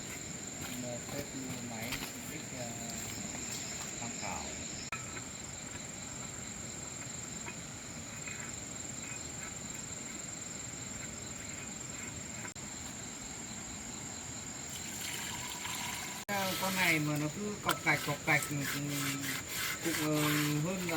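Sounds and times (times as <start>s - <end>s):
crickets trilling: 0.0s - 20.9s.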